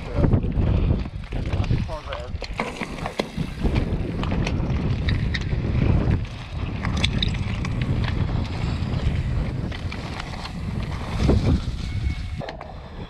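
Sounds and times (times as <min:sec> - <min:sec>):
clicks and rattles of bike: 0:00.0 - 0:12.8
wind rushing over microphone: 0:00.0 - 0:13.0
tyres running over stones: 0:01.2 - 0:11.7.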